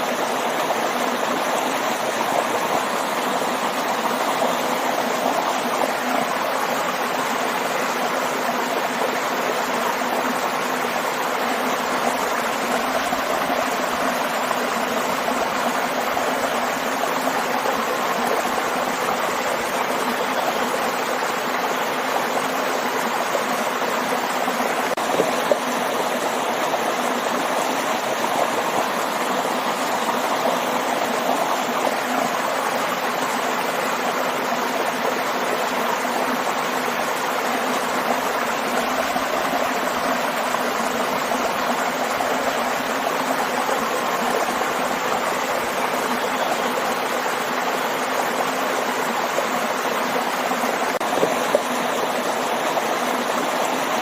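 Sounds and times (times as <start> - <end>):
waterfall and stream rushing: 0.0 - 54.0.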